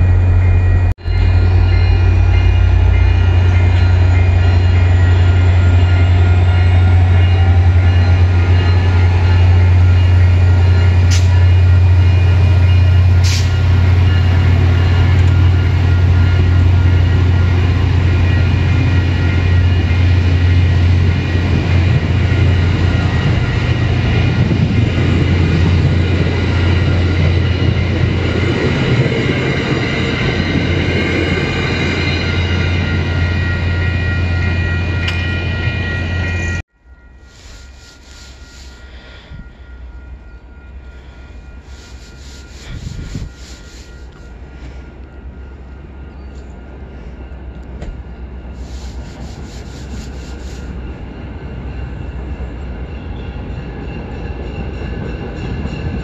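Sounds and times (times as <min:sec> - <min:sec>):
crossing bell ringing: 0:00.0 - 0:48.6, 0:49.9 - 0:56.0
train coaches rolling past: 0:00.0 - 0:56.0.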